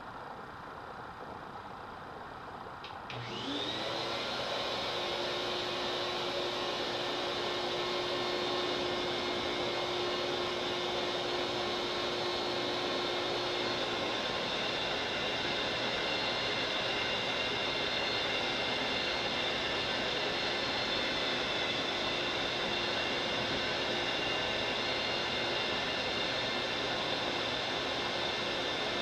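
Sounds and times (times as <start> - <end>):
electric air blower whining: 2.9 - 29.0.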